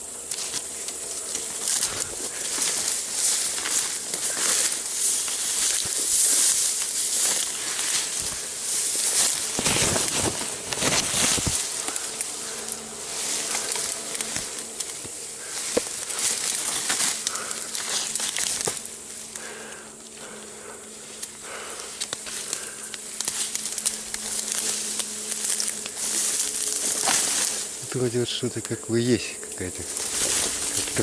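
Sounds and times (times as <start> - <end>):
footsteps crunching dry litter: 0.0 - 31.0
insect buzz: 0.0 - 31.0.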